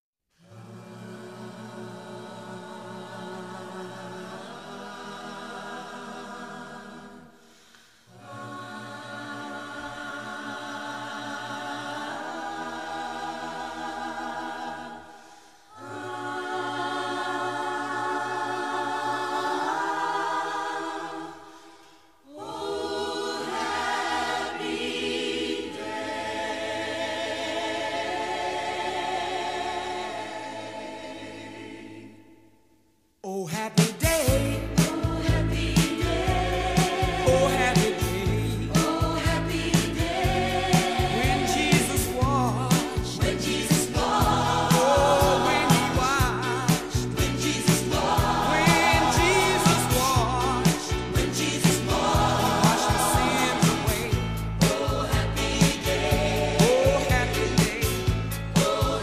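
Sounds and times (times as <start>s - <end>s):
choir singing held chords: 0.4s - 33.0s, 34.1s - 59.0s.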